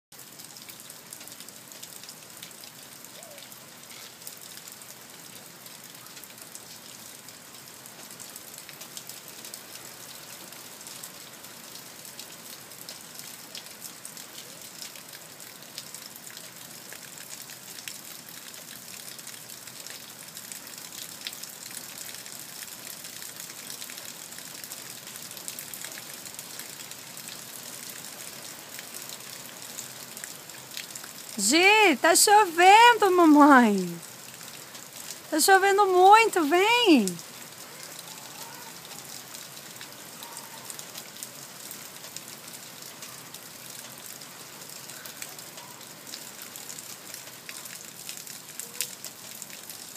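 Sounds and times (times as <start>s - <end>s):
heavy rain falling: 0.2s - 49.9s.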